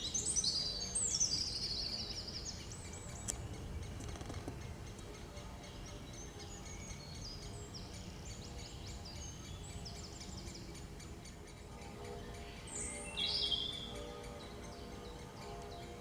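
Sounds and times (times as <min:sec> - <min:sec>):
birds twittering: 0:00.0 - 0:16.0.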